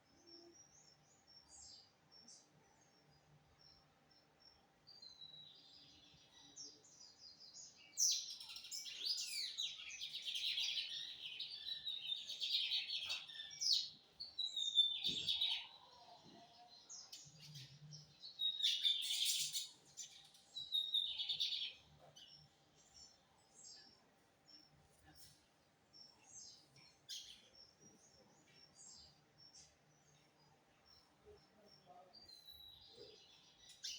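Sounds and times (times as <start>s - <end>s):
bird singing chirps and trills: 0.0s - 33.9s.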